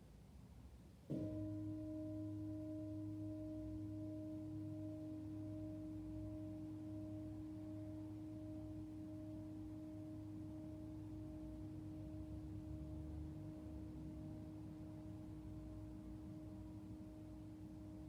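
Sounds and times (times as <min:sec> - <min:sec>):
singing bowl ringing: 0:01.1 - 0:18.0.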